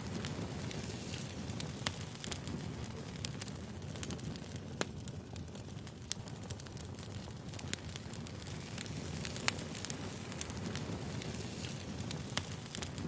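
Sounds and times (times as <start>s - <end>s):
firewood crackling and popping: 0.0s - 13.0s
flames rumbling: 0.0s - 13.0s.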